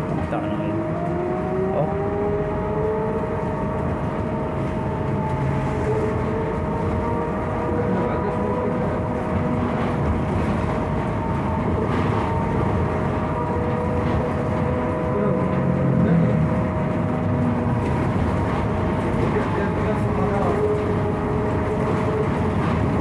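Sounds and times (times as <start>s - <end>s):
rumble and rattle of bus body: 0.0s - 23.0s.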